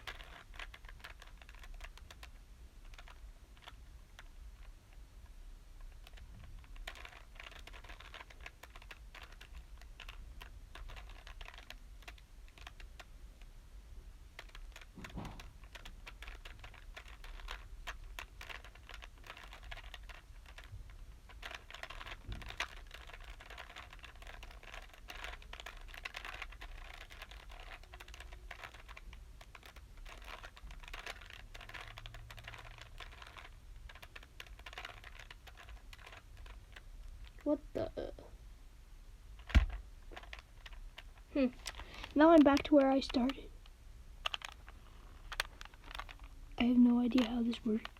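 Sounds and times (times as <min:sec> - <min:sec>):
puzzle cube clicking as twisted: 0:00.0 - 0:04.8, 0:05.8 - 0:13.5, 0:14.3 - 0:37.6, 0:39.4 - 0:47.9.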